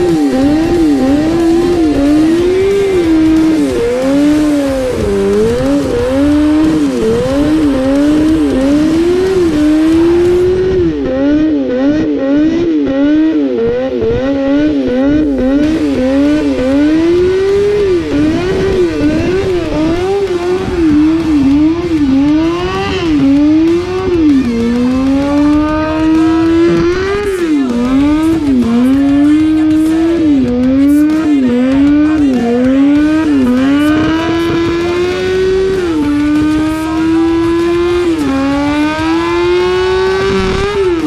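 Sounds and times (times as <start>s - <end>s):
vehicle engine revving: 0.0s - 41.0s.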